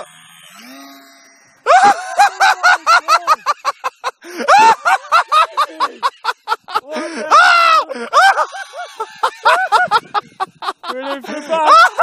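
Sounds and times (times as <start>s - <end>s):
people laughing hard: 1.6s - 12.0s.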